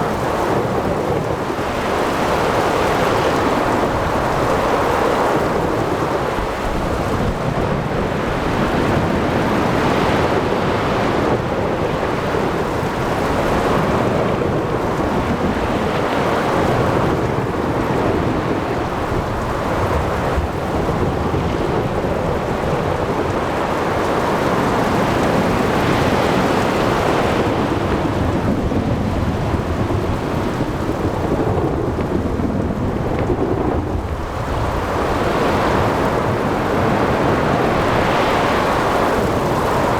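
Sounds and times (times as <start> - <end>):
rain: 0.0 - 39.9
surf: 0.0 - 39.9.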